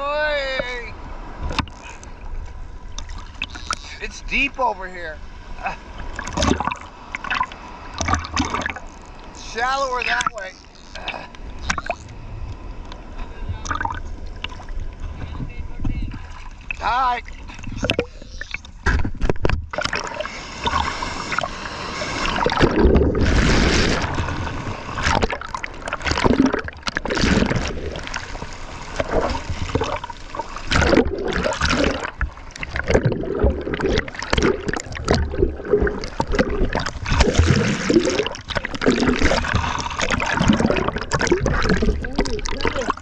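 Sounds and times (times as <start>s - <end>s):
surf splashing and gurgling: 0.0s - 43.0s.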